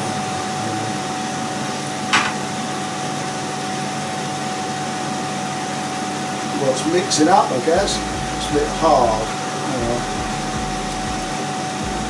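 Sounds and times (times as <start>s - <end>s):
fan-like background hum: 0.0s - 12.0s.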